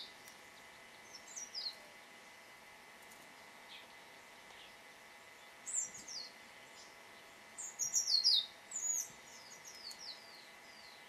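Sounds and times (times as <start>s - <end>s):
small songbird chirping: 0.0s - 1.9s, 3.4s - 11.0s.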